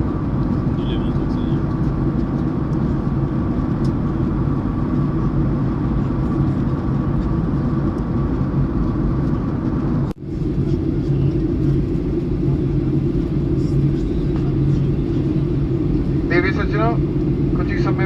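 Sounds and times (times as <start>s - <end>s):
airliner cabin drone: 0.0s - 18.0s.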